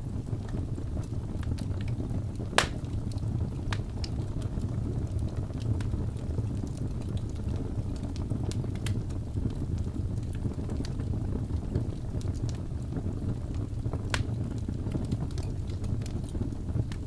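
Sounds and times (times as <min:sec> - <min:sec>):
fire crackles and pops: 0:00.0 - 0:17.0
fire rumbling: 0:00.0 - 0:17.0.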